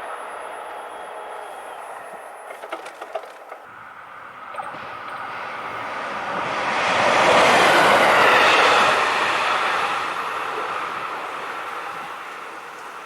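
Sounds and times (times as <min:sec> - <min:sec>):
railcar passing: 0:00.0 - 0:13.0.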